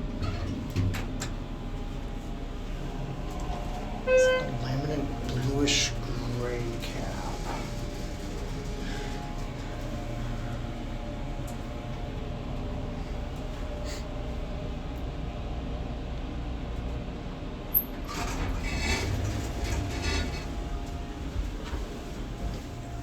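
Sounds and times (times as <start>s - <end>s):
elevator hum: 0.0s - 23.0s
elevator rattling: 0.1s - 14.7s, 17.8s - 23.0s.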